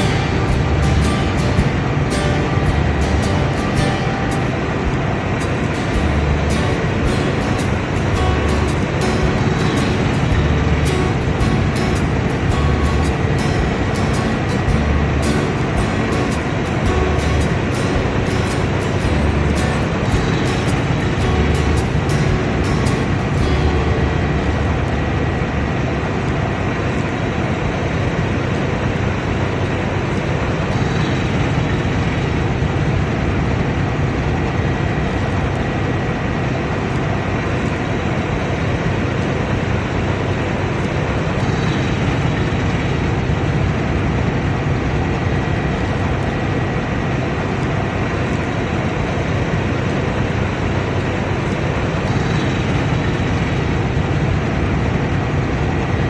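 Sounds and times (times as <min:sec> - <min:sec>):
combine harvester running: 0:00.0 - 0:56.0
thin machine whine: 0:00.0 - 0:56.0.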